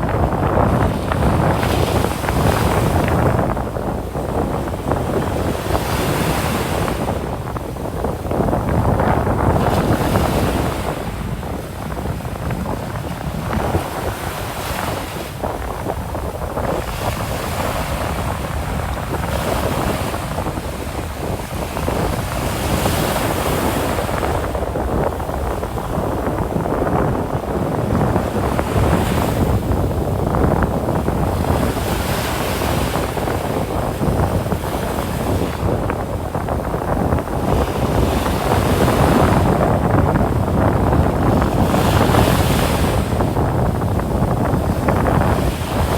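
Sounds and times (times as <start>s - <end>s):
ocean surf on sandy beach: 0.0s - 45.9s
wind buffeting microphone: 0.0s - 45.9s.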